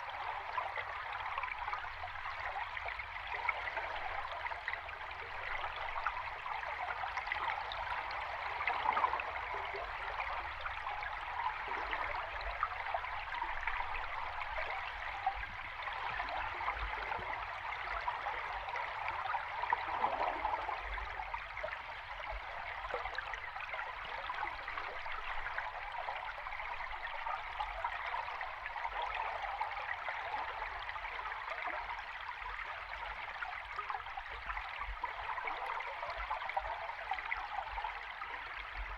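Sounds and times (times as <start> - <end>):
river water flowing underwater: 0.0 - 38.9.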